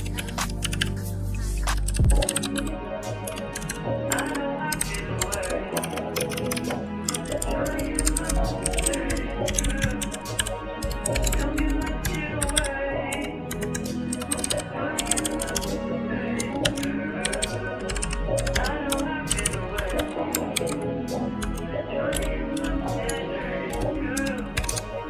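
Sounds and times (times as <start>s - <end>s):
background music: 0.0s - 25.0s
keyboard typing: 0.0s - 25.0s.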